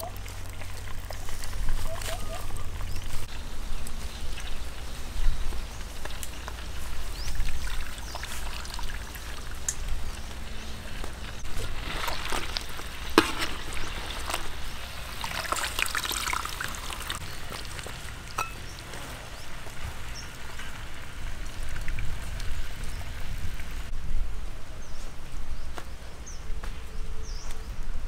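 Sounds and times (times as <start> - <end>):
juices crackling in a wok: 0.0 - 23.9.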